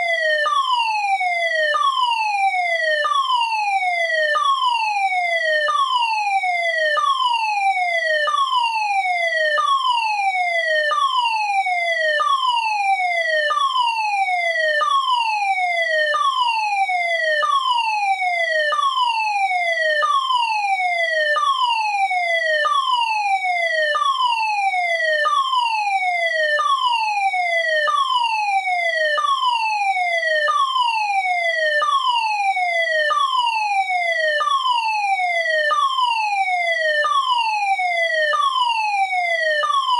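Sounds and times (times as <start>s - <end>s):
fire alarm falling tone: 0.0s - 39.9s.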